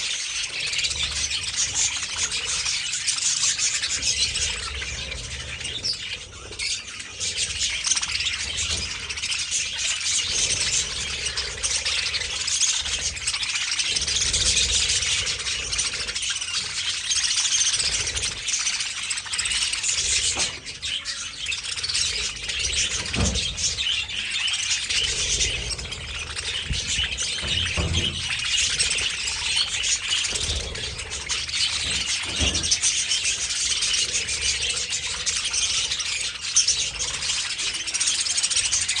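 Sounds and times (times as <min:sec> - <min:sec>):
flock of budgerigars chirping: 0:00.0 - 0:39.0.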